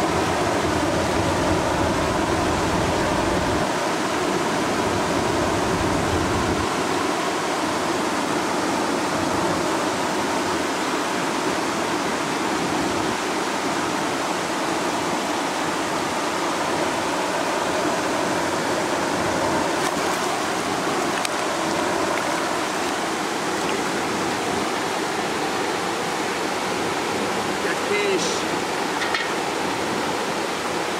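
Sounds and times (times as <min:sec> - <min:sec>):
river water spilling over weir: 0:00.0 - 0:30.9.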